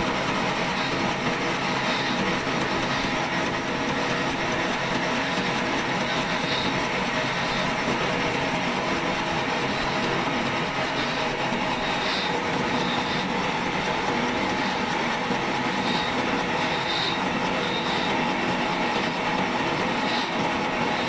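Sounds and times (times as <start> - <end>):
sawmill saw cutting wood: 0.0 - 21.0.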